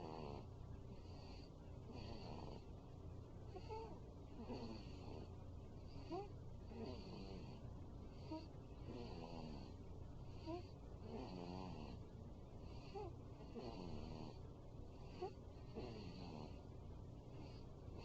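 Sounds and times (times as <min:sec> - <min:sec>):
baby snoring softly: 0:00.0 - 0:02.7, 0:03.5 - 0:16.7.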